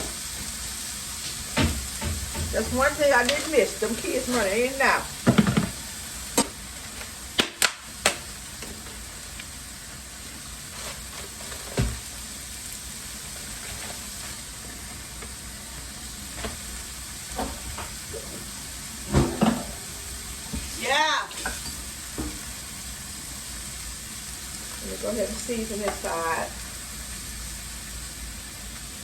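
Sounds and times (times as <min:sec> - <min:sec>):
burger patties sizzling in a pan: 0:00.0 - 0:29.0.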